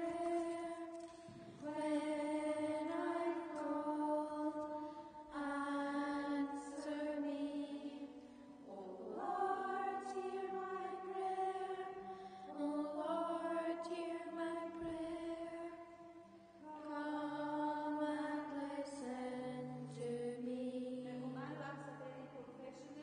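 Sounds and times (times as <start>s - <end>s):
group chanting a hymn: 0.0s - 21.4s.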